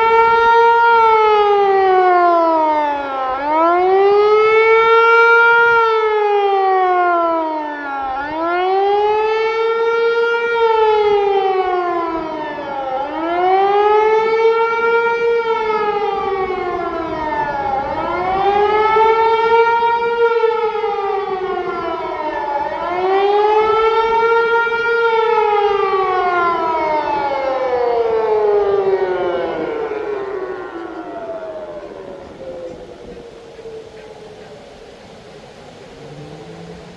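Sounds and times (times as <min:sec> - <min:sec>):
civil defence siren wailing: 0:00.0 - 0:36.9.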